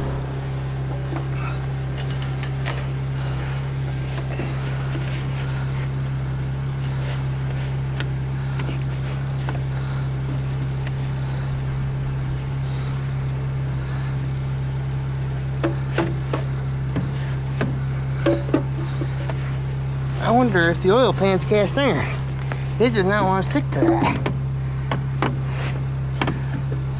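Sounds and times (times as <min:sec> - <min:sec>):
portable generator humming: 0:00.0 - 0:26.9.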